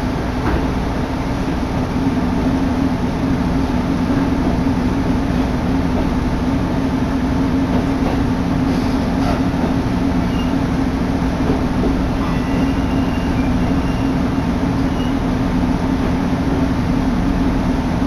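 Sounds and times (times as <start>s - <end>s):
railcar engine drone: 0.0s - 18.0s.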